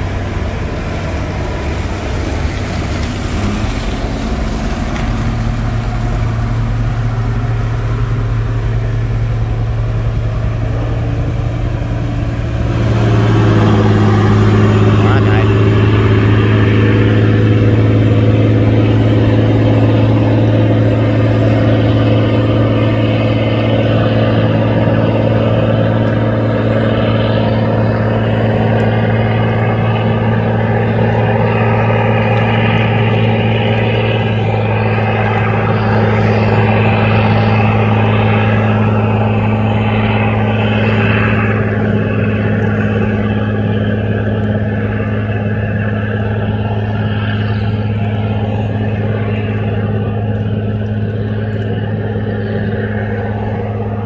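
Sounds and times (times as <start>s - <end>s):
boat engine deep drone: 0.0s - 54.0s.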